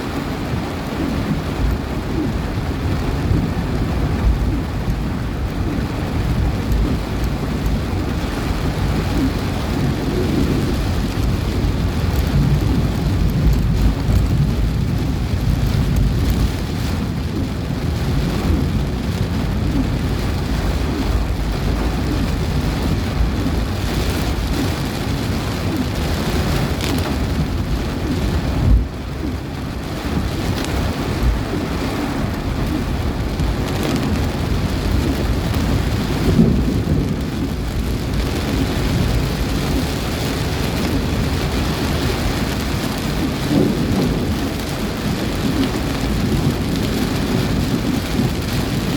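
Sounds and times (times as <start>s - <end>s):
gusty wind: 0.0s - 48.9s
heavy rain downpour: 0.0s - 48.9s.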